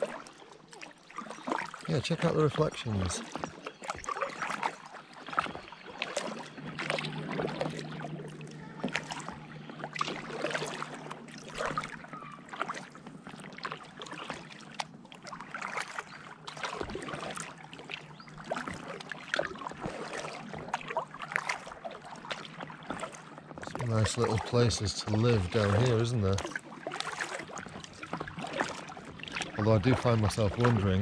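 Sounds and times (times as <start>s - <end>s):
paddle strokes in water: 0.0s - 31.0s
splashes and drips: 0.0s - 31.0s.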